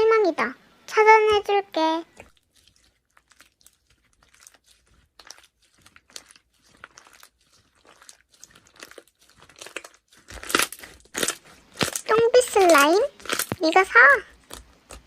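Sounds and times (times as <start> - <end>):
crunching and crinkling crackles: 1.2 - 15.0.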